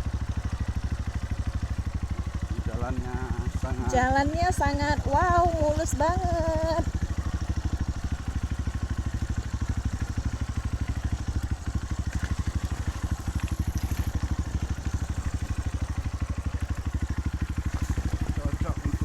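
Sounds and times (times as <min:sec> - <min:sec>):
motorcycle engine at low revs: 0:00.0 - 0:19.0.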